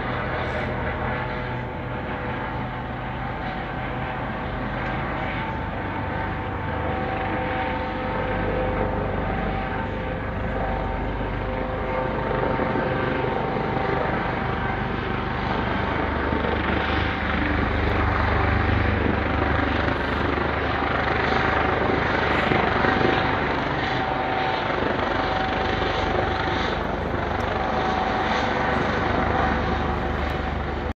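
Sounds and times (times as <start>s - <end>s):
helicopter rotor and engine: 0.0s - 30.9s.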